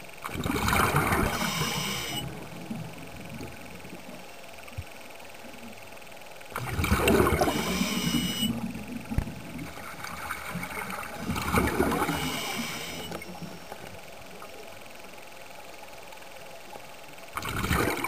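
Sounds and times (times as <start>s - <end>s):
underwater gurgling and bubbling: 0.0s - 5.8s, 6.4s - 15.0s, 17.3s - 18.0s.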